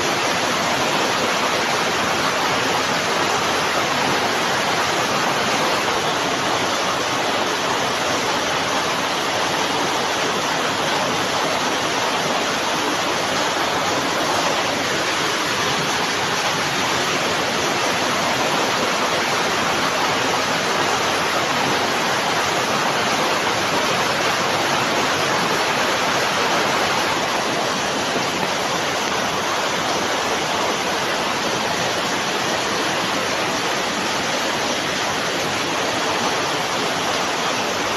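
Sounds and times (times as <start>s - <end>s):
steady dense rain: 0.0s - 37.9s.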